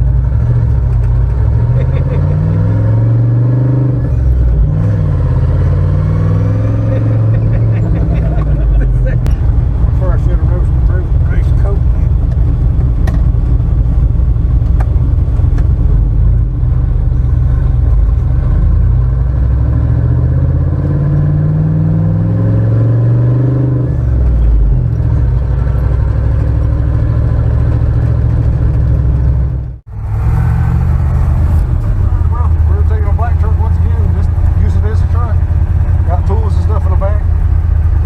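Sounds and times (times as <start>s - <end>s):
vehicle engine revving: 0.0s - 38.0s.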